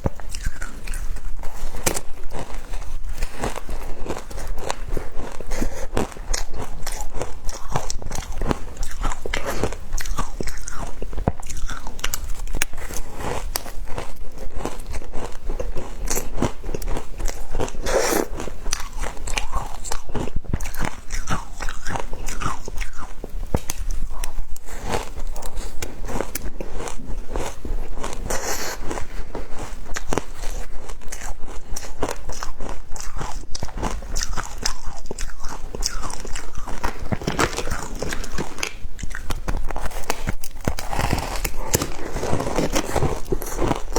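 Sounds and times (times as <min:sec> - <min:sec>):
ice crunching while chewed: 0:00.0 - 0:43.9.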